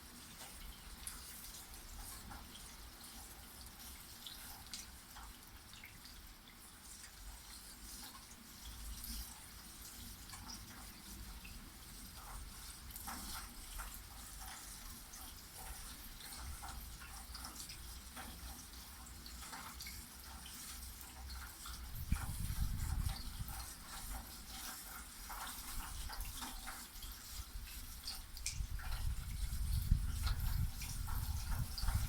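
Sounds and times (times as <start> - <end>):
drops ticking and dripping: 0.2 - 32.0.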